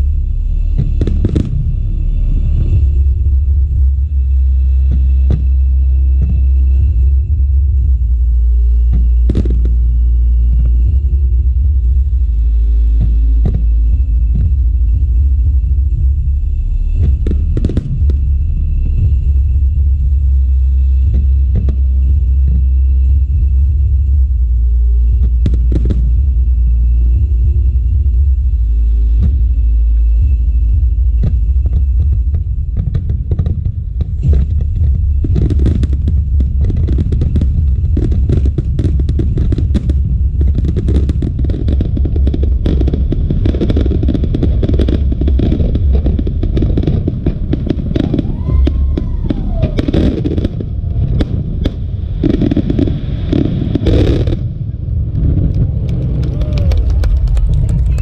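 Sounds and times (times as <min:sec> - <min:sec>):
firework whistle: 0:00.0 - 0:23.7, 0:24.8 - 0:58.0
continuous low rumble: 0:00.0 - 0:58.0.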